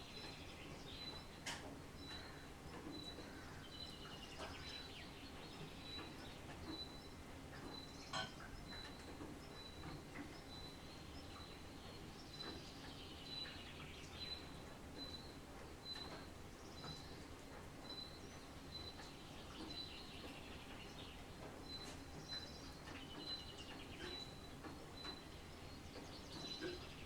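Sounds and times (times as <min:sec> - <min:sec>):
faint background noise: 0:00.0 - 0:27.0.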